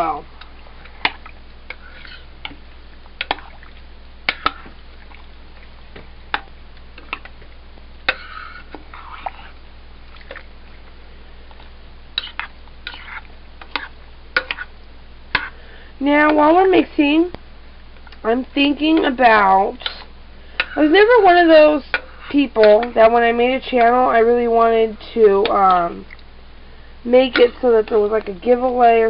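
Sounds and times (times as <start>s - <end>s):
soft wet stirring: 0.0s - 17.2s, 17.9s - 26.4s.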